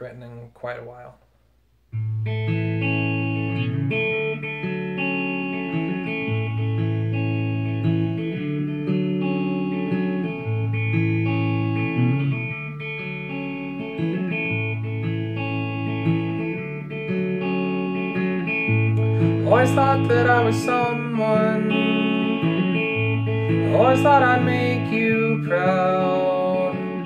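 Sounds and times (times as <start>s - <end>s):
electric guitar chords: 1.9s - 27.0s.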